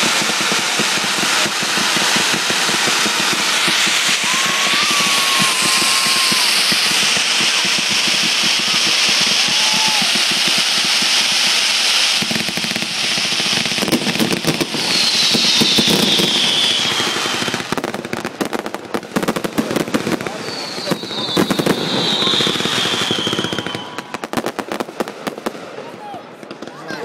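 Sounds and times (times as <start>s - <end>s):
falling firework whistle: 0.0s - 18.6s, 19.4s - 24.4s
firework pops: 0.0s - 25.6s
fireworks hissing and crackling: 0.0s - 27.0s.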